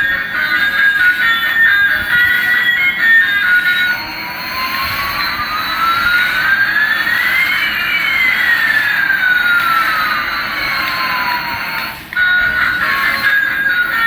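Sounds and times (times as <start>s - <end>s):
jet engine whine: 0.0s - 14.0s.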